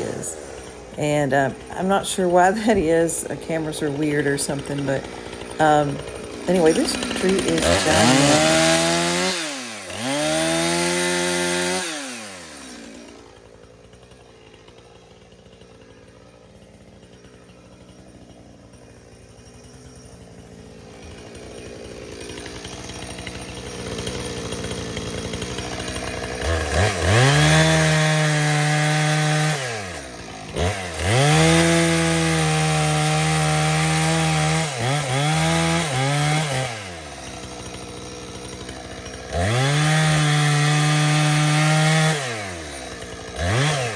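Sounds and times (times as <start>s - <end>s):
chainsaw cutting a tree: 0.0s - 43.9s.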